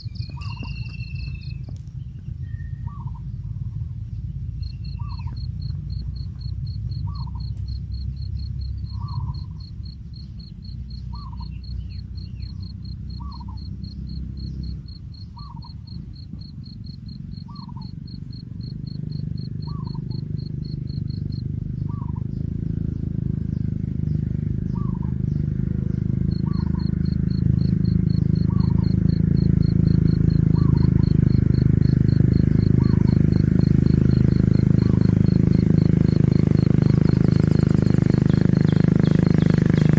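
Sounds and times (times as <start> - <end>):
rapid insect chirp: 0.0 - 2.3, 2.9 - 39.9.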